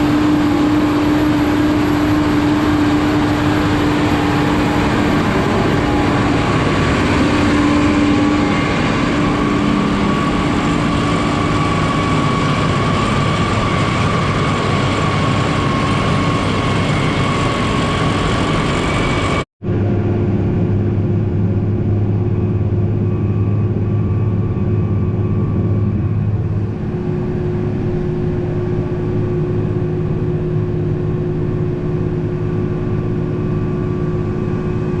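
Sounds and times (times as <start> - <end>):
heavy farm machinery engines: 0.0 - 35.0
low hum: 0.0 - 35.0.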